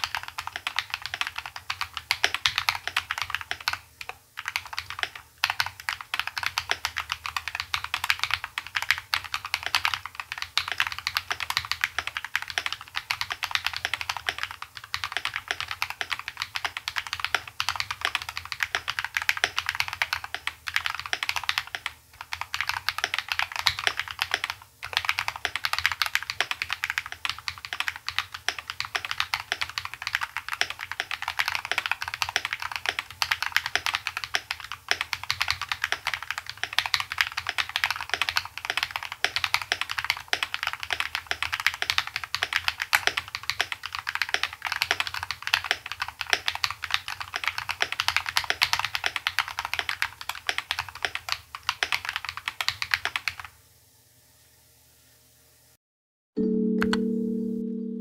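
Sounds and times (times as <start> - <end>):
mechanical keyboard typing: 0.0 - 53.5.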